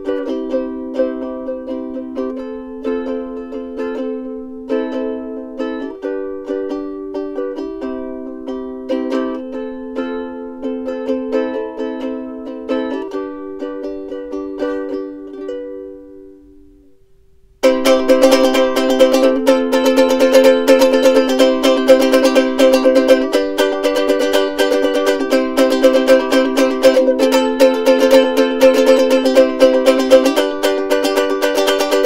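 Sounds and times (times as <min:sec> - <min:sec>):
plucked ukulele music: 0:00.0 - 0:32.0.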